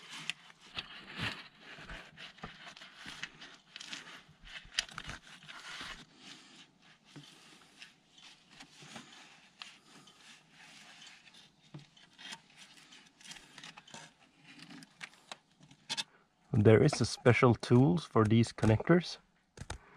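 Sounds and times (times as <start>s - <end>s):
gloved hands rubbing and scraping: 0.0s - 19.0s.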